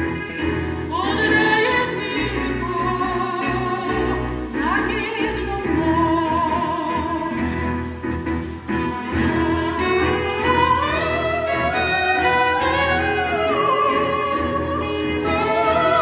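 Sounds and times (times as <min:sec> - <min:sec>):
backing music: 0:00.0 - 0:16.0
woman singing operatically: 0:00.8 - 0:07.5, 0:09.1 - 0:16.0.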